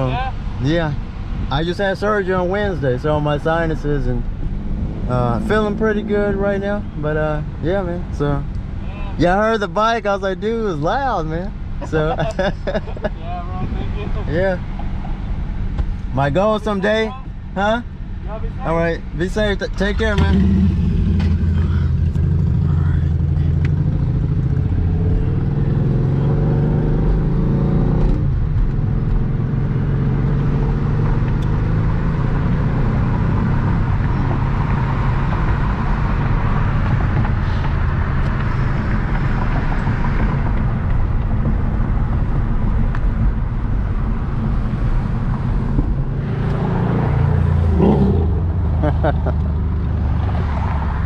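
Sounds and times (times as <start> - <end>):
car engine accelerating: 0.0 - 13.0, 18.6 - 51.0
road noise: 0.0 - 51.0.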